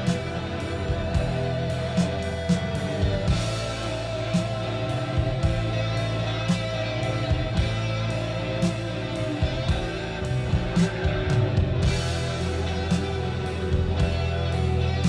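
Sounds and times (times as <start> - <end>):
instrumental rock music: 0.0 - 15.0.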